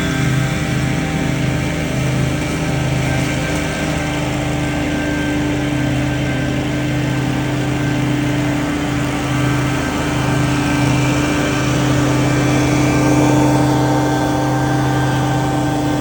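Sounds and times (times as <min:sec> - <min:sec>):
leaf blowers running: 0:00.0 - 0:16.0.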